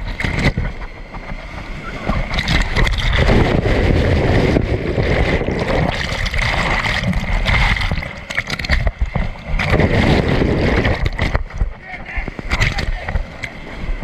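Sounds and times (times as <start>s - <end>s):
rapids churning and splashing: 0.0s - 14.0s.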